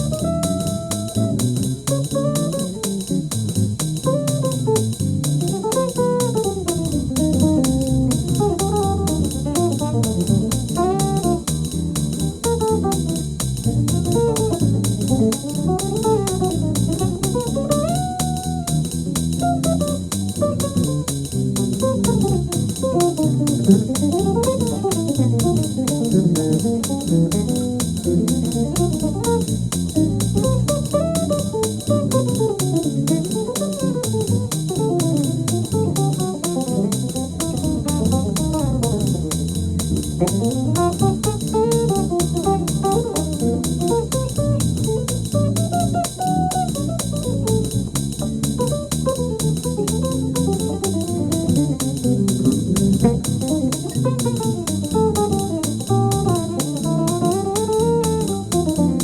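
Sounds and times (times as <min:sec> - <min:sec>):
jazz guitar with bass: 0:00.0 - 0:59.0.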